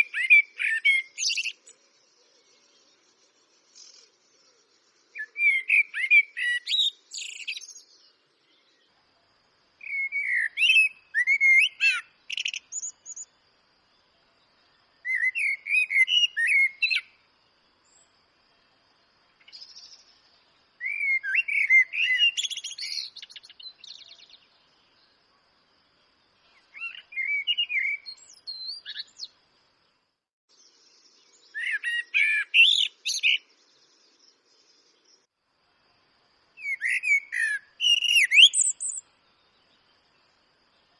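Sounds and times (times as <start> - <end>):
blackbird singing: 0.0 - 9.0, 9.8 - 13.3, 14.4 - 17.2, 19.4 - 25.2, 26.4 - 29.4, 30.5 - 35.2, 36.6 - 40.9.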